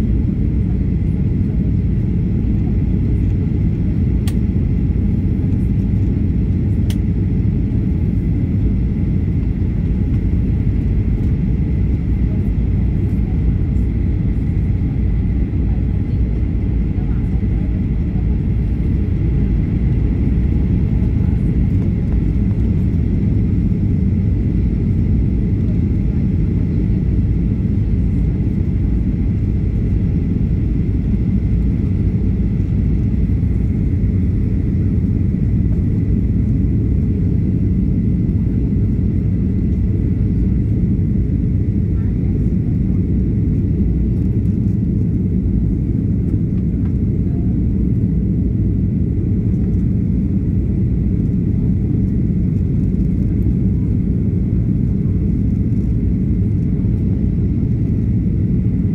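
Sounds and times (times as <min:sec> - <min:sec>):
airplane cabin roar: 0:00.0 - 0:58.9.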